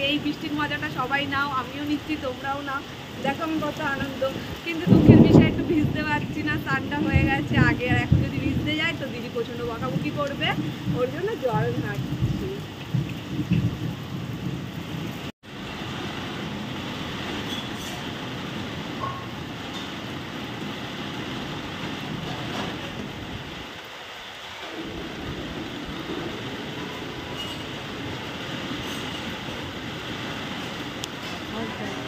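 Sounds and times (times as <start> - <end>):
heavy rain hissing: 0.0 - 32.0.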